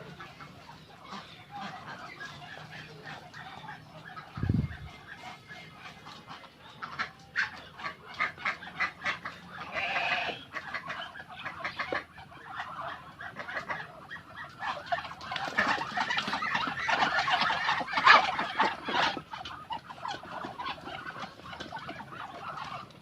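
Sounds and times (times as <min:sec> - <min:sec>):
poultry clucking and calling: 0:00.0 - 0:23.0.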